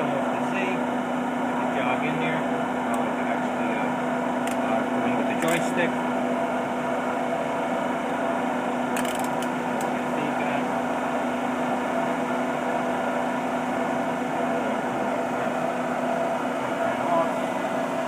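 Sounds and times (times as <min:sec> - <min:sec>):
lathe spindle humming: 0:00.0 - 0:18.0.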